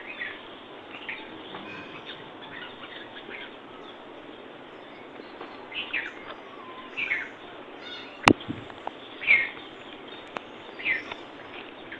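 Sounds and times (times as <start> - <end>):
bird chirping: 0.0 - 11.9
steady hiss: 0.0 - 11.9.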